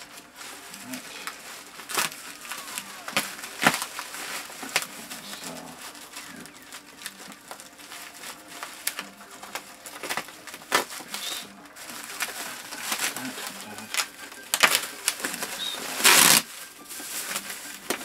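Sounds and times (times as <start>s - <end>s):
bubble wrap and tape crinkling: 0.0s - 18.0s.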